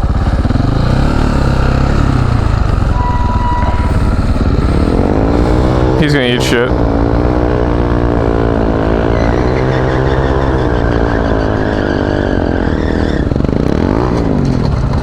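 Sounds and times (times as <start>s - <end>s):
motorcycle engine high revs: 0.0s - 15.0s.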